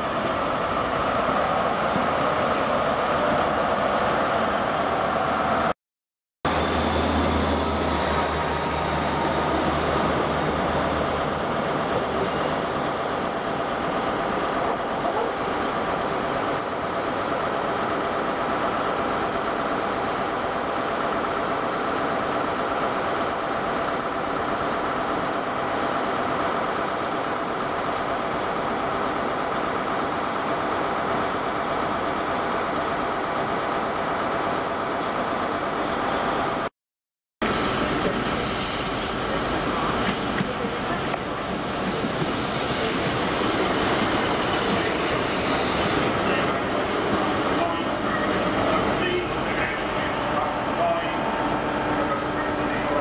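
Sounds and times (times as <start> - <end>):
train engine and rail noise: 0.0 - 5.8, 6.5 - 36.7, 37.4 - 53.0
train running past: 6.5 - 36.7, 37.4 - 53.0.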